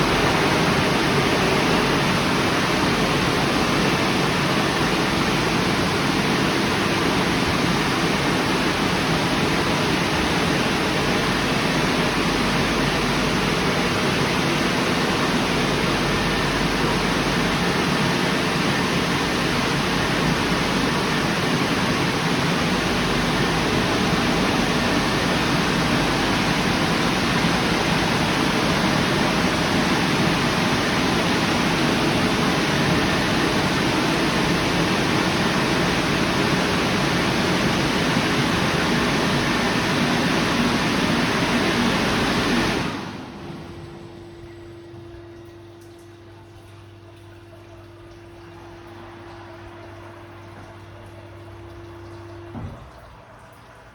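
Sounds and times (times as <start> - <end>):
car wash machine running: 0.0 - 53.9.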